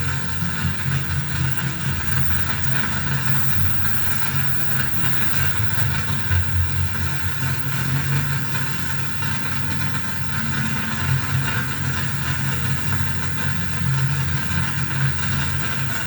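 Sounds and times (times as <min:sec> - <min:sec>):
fluttering low electronic drone: 0:00.0 - 0:16.0.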